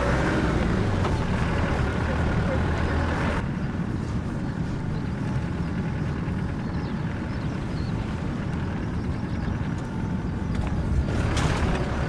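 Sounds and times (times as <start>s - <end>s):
vehicle engine and tyre rumble: 0.0s - 12.0s
faint bird chirps: 2.0s - 11.8s.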